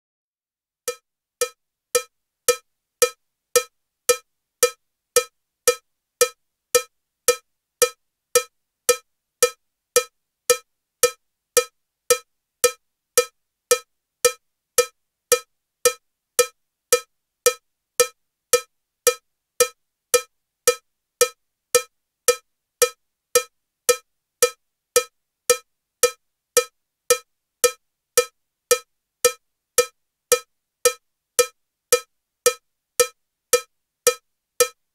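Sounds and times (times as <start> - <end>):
cowbell metronome ticking: 0.9 - 34.9.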